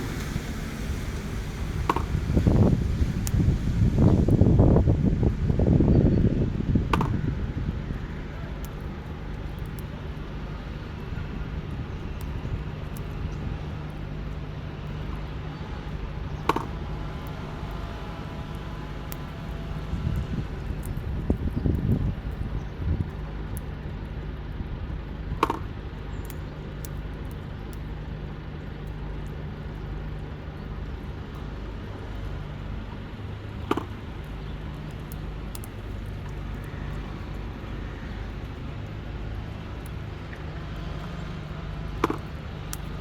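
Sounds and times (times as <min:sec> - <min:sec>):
low motor drone: 0:00.0 - 0:43.0.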